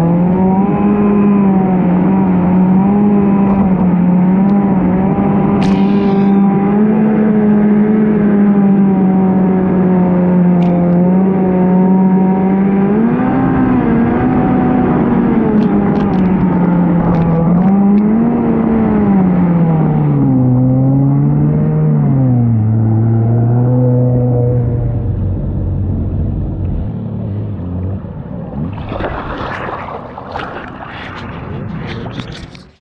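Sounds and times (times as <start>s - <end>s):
jet ski engine running hard: 0.0s - 32.6s.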